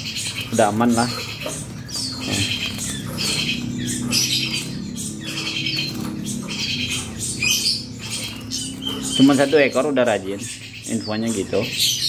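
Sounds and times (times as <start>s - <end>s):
caged birds chirping with buzzy trill: 0.0s - 12.0s.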